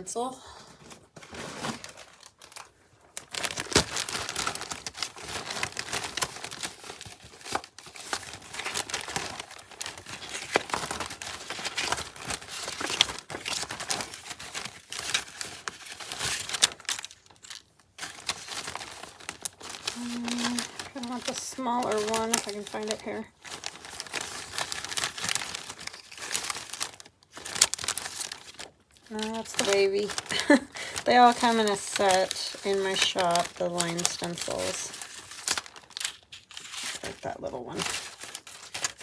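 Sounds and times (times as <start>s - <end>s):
craft materials crinkling and rustling: 0.1s - 39.0s.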